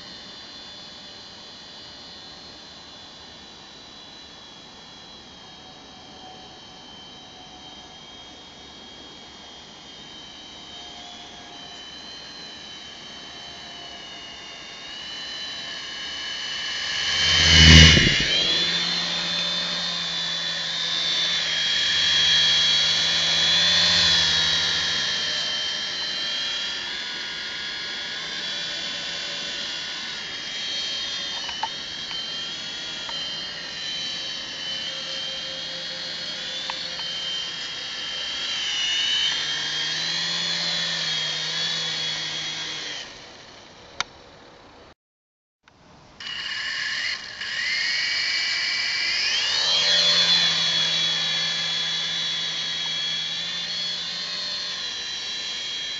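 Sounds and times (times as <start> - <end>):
toy helicopter motor whining: 0.0 - 44.8, 46.2 - 55.9.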